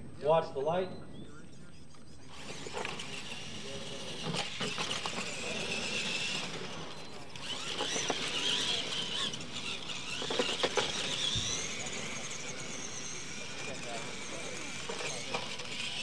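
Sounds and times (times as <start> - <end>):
electric toy truck motors whining: 1.9 - 16.0.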